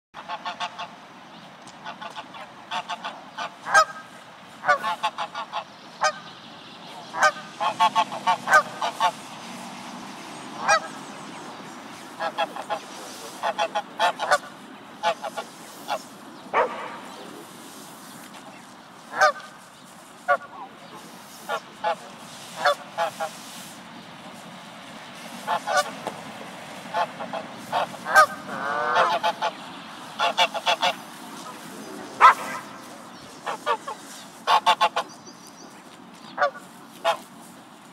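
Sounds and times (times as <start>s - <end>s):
geese honking: 0.2s - 1.0s, 1.8s - 9.5s, 10.5s - 17.5s, 18.2s - 24.5s, 25.1s - 26.2s, 26.8s - 35.4s, 36.3s - 37.3s.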